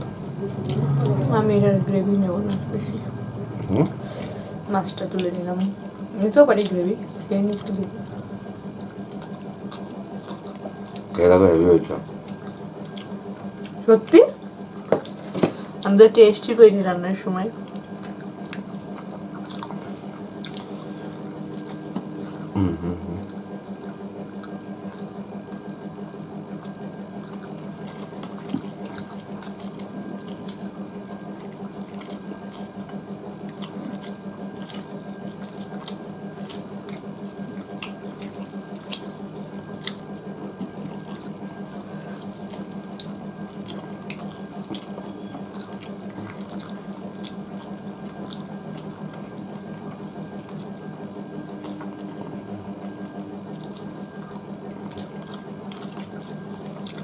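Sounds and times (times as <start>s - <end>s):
chewing: 0.0s - 15.9s, 17.5s - 57.0s
steady hum and hiss: 0.0s - 57.0s.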